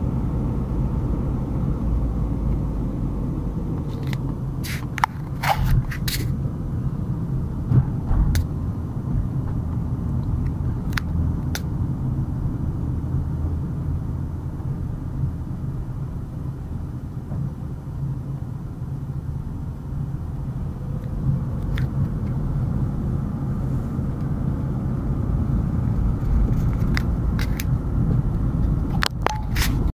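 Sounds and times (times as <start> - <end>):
car road and engine rumble: 0.0 - 29.9.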